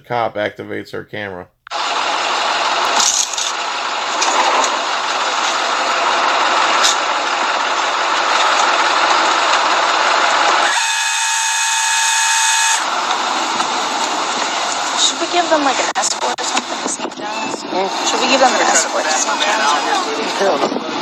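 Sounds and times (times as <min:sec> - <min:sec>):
noisy hiss: 0:00.0 - 0:21.0.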